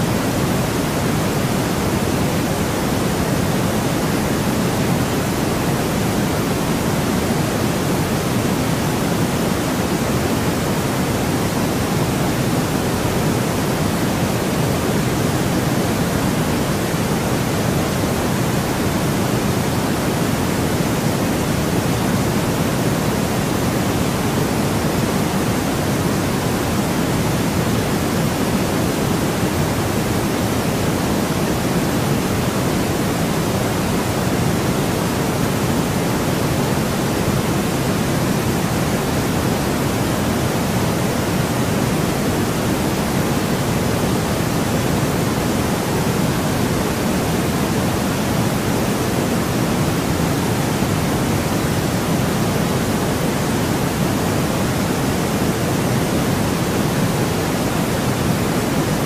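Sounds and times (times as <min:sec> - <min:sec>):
deep white noise hiss: 0:00.0 - 0:59.0.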